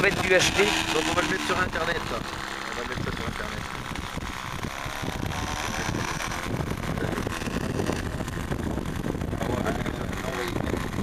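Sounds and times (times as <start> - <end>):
model airplane motor running: 0.0 - 11.0
wind buffeting microphone: 0.0 - 11.0.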